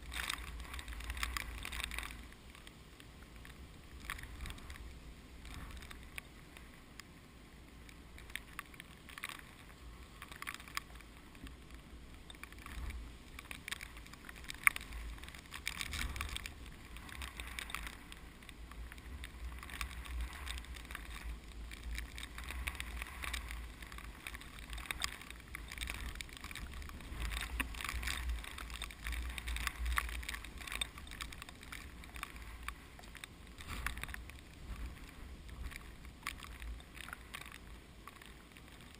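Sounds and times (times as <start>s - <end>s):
rice plants rustling: 0.0s - 38.9s
wind rumble on microphone: 0.0s - 38.9s.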